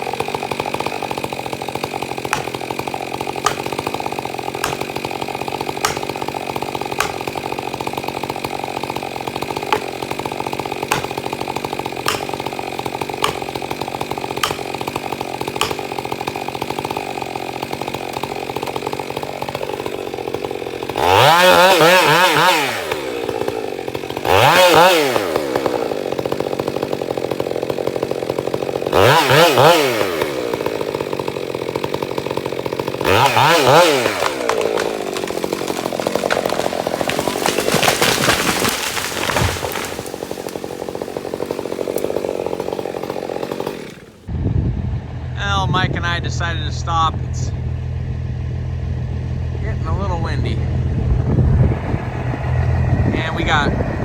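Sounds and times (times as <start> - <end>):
chainsaw engine revving: 0.0 - 44.3, 45.2 - 54.0.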